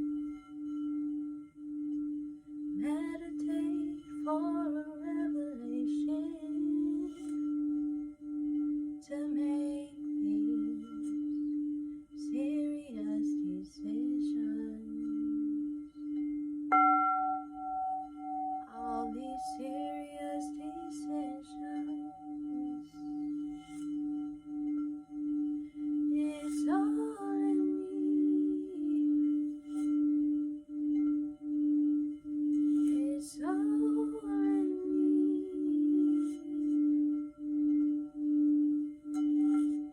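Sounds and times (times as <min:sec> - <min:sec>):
singing bowl low steady tone: 0:00.0 - 0:39.9
struck bowl bright ring: 0:00.0 - 0:39.9.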